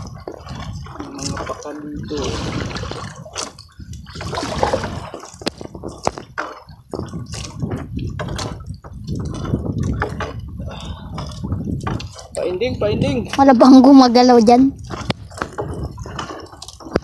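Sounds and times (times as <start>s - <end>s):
water dripping and splashing: 0.0s - 12.6s, 13.2s - 17.0s.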